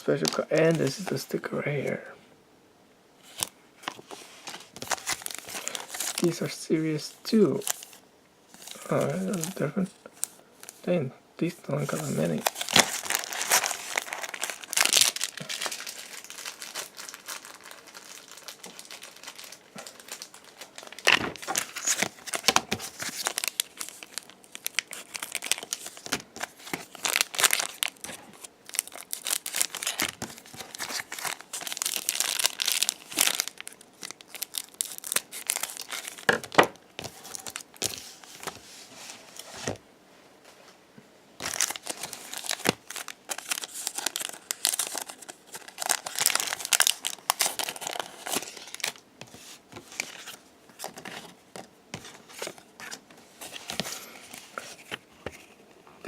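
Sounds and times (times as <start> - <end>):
card pack wrappers crinkling and tearing: 0.0 - 2.0, 3.2 - 10.9, 11.7 - 38.6, 41.4 - 55.6.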